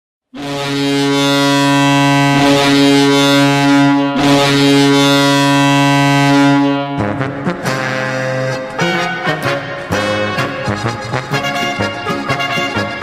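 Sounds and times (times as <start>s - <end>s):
ice hockey goal horn blasts: 0.3s - 13.0s.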